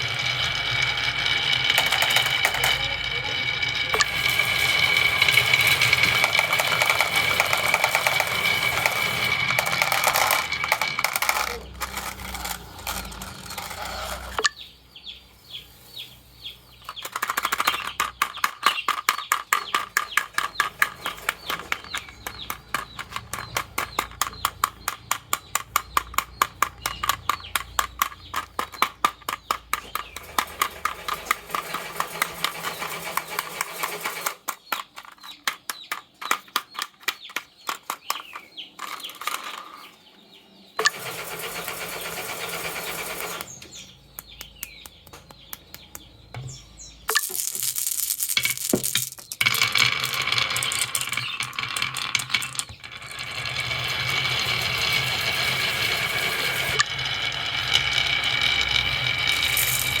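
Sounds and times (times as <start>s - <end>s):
marbles clattering down wooden tracks: 0.0s - 14.6s, 16.8s - 39.8s, 40.8s - 43.6s, 47.1s - 60.0s
steady rattle: 0.0s - 14.6s, 16.8s - 34.5s, 40.8s - 44.4s, 45.7s - 60.0s
toy motor whirring: 0.0s - 14.6s, 16.8s - 39.8s, 40.8s - 43.8s, 47.1s - 60.0s.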